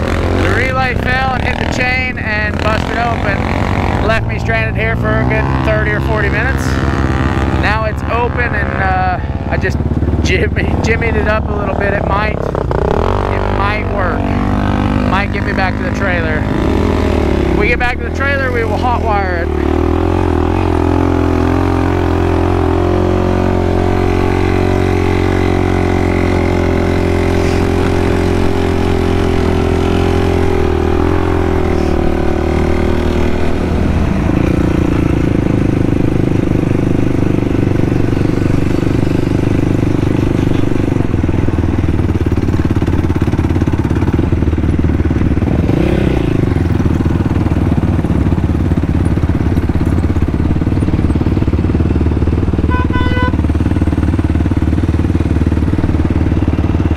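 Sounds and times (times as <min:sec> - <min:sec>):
quad engine running: 0:00.0 - 0:56.9.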